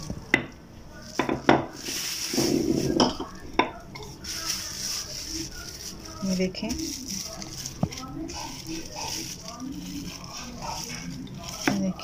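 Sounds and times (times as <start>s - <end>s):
plastic rustling and crinkling: 0.0s - 12.0s.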